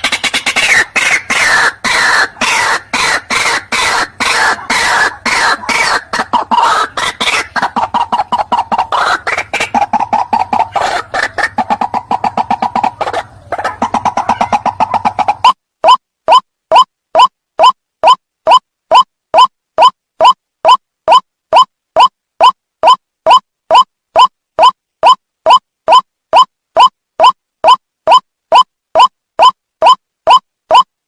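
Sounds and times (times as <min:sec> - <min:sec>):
bird harsh clucking calls: 0:00.0 - 0:30.8.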